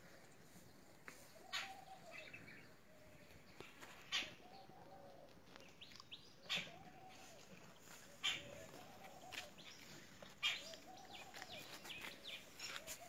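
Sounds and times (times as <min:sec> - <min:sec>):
bird calling: 0:01.4 - 0:13.0.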